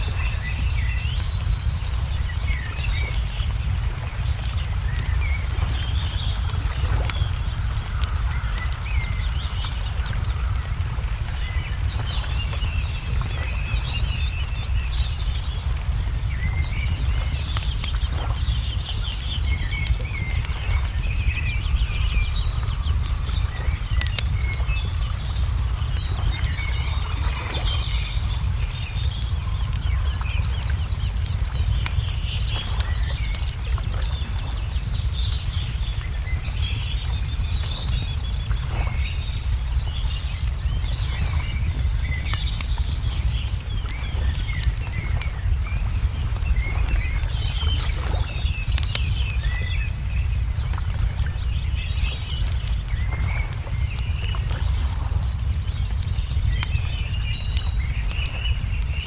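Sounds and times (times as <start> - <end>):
songbirds chirping: 0.0 - 59.0
steady low rumble: 0.0 - 59.0
wood fire crackling: 0.0 - 59.0.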